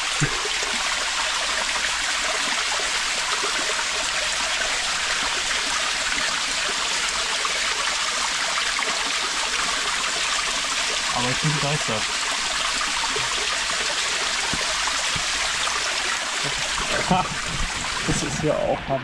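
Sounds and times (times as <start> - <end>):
water rushing in a cave: 0.0 - 19.0.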